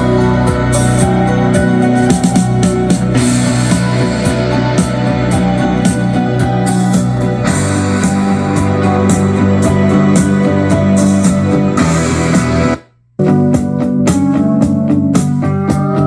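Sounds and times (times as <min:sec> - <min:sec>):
rock song through speaker: 0:00.0 - 0:16.0.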